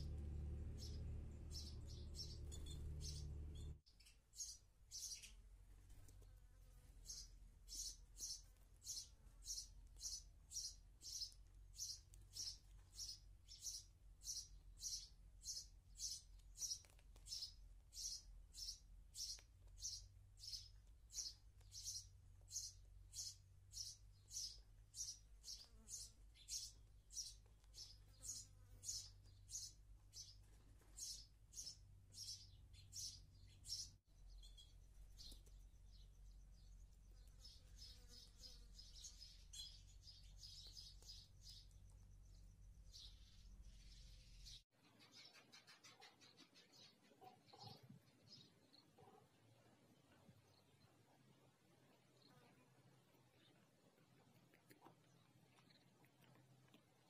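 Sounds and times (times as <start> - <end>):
sparrow chirping: 0.0 - 49.2.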